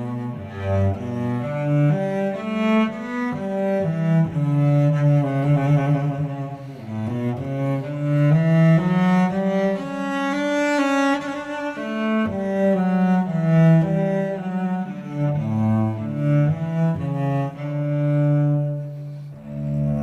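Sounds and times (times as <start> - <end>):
low bowed string melody: 0.0 - 20.0.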